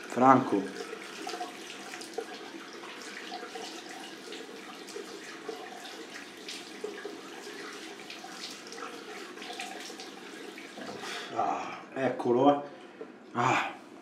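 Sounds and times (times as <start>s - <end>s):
water splashing in sink: 0.0s - 11.3s
water running from a tap: 0.0s - 11.4s.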